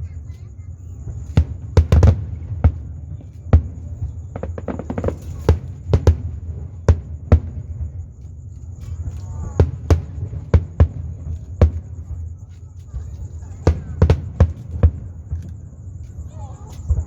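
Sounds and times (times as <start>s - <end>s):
fireworks bangs: 0.0s - 17.0s
steady low rumble: 0.0s - 17.0s.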